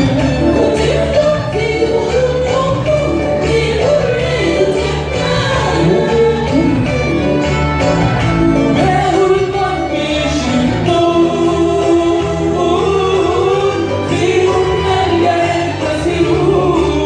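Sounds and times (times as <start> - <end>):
singers performing a hymn: 0.0 - 7.3, 8.6 - 17.0
instrumental backing: 0.0 - 17.0.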